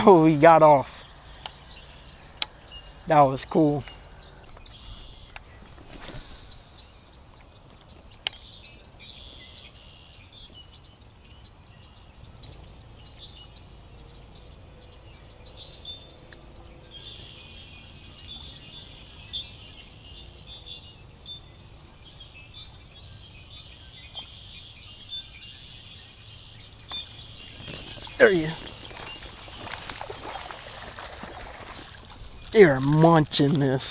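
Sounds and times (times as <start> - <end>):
birds chirping and trilling: 0.0 - 33.9.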